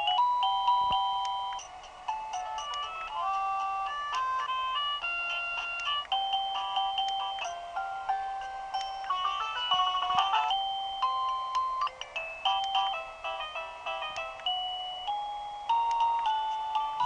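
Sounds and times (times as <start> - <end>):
electronic doorbell chime melody: 0.0 - 17.0.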